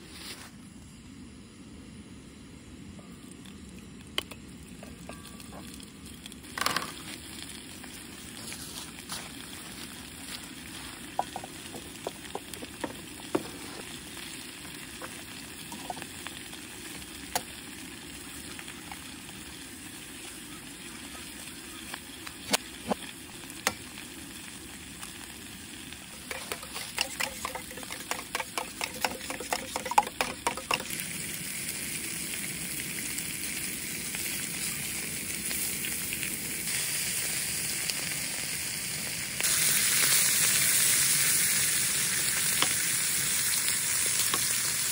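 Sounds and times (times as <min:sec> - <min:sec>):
sausages sizzling in a skillet: 0:04.4 - 0:44.9.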